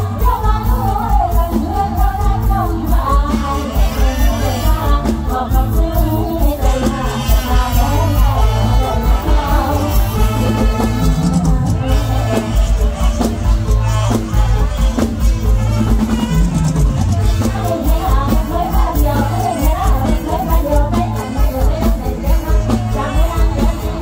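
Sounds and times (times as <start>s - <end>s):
person singing: 0.0s - 24.0s
upbeat dance band music: 0.0s - 24.0s.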